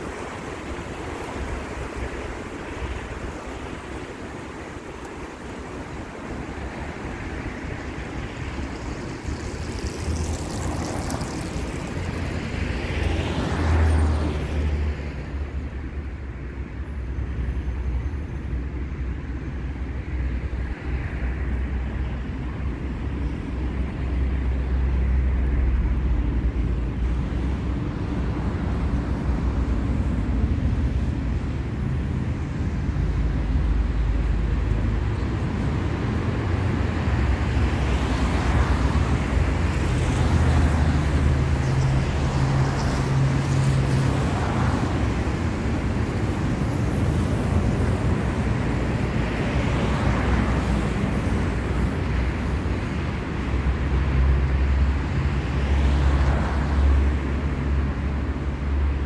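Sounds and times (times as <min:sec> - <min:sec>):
car passing by: 0:00.0 - 0:15.8, 0:19.6 - 0:59.0
traffic engine rumble: 0:00.0 - 0:59.0.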